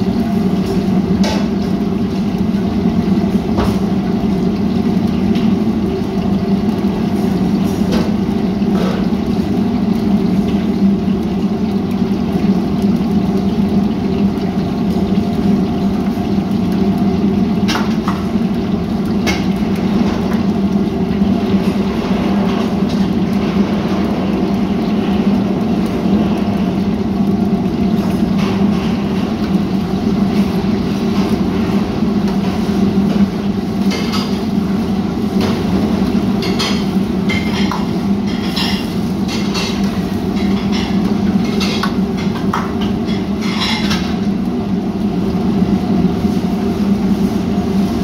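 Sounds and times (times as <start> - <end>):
gas burners roaring: 0.0 - 48.0.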